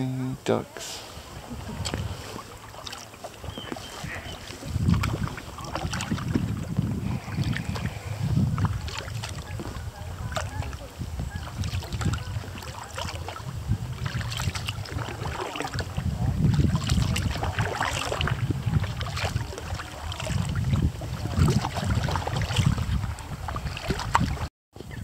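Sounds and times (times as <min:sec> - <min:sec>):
paddle strokes splashing water: 0:00.6 - 0:24.5
wind rumble on microphone: 0:01.0 - 0:02.7, 0:03.3 - 0:25.0.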